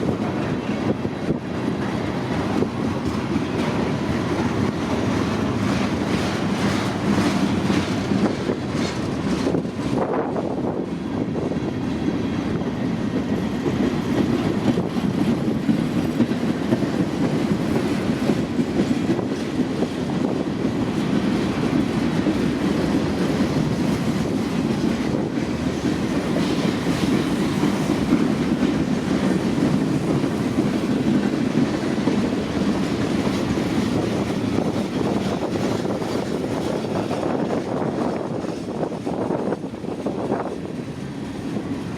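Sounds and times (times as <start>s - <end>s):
clickety-clack over rail joints: 0.0s - 41.9s
freight train wheels rumbling on rail: 0.0s - 41.9s.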